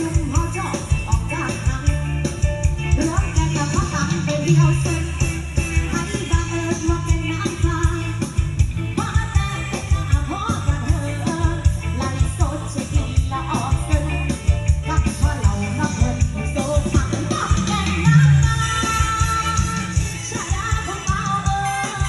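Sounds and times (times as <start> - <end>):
song with singing over loudspeakers: 0.0 - 22.0.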